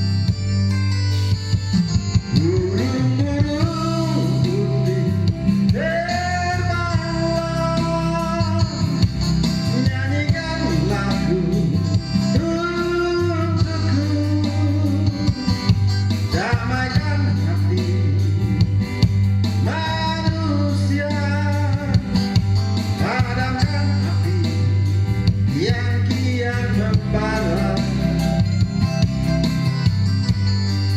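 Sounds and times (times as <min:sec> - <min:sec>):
pop ballad with band: 0:00.0 - 0:30.9.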